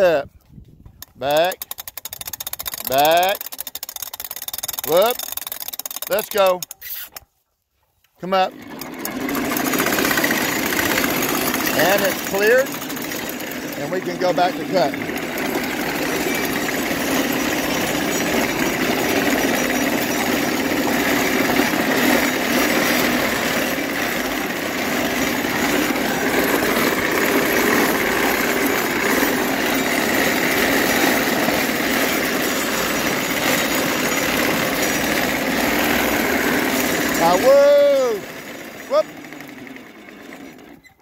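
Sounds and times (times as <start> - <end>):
mowing machine clattering: 1.0 - 7.2, 8.2 - 41.0.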